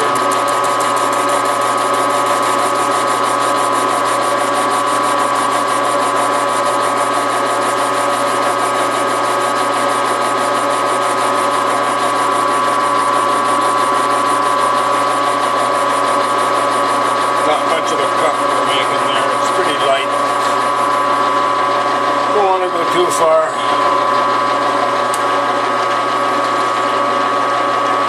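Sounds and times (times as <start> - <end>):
metal lathe whining and ticking: 0.0 - 28.0.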